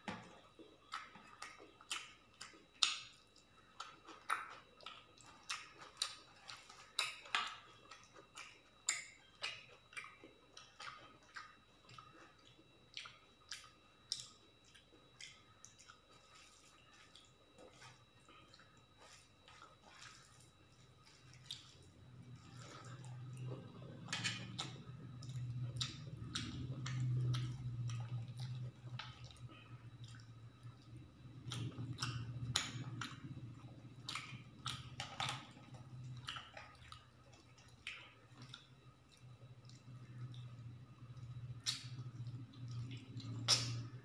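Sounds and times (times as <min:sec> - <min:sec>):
low steady hum: 0:00.0 - 0:44.0
person chewing food: 0:00.0 - 0:44.0.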